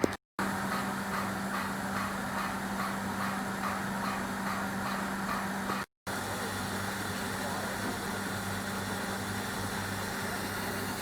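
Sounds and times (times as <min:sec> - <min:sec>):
blast machine humming and hissing: 0:00.4 - 0:11.0.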